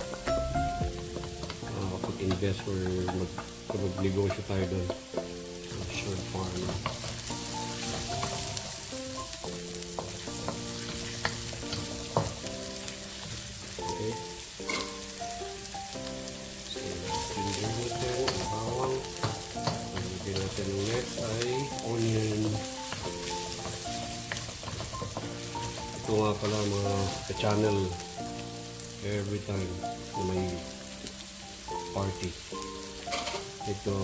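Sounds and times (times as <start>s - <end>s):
wooden spatula scraping a wok: 0.0s - 15.2s, 16.4s - 28.5s
background music: 0.0s - 34.0s
garlic sizzling in oil: 0.0s - 34.0s.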